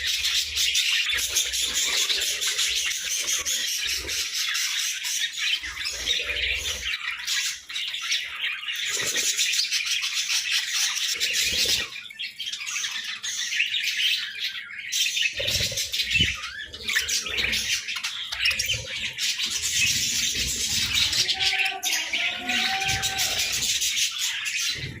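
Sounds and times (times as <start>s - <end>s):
budgerigars chattering and chirping: 0.0s - 25.0s.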